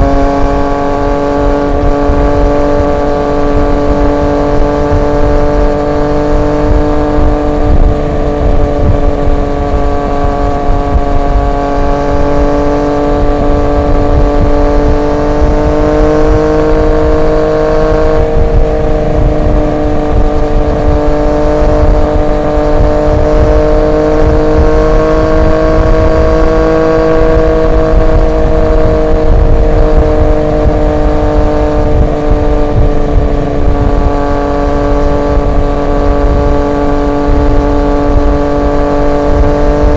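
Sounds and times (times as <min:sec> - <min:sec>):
motorcycle engine cruising: 0:00.0 - 0:39.9
low rumble: 0:06.2 - 0:39.9.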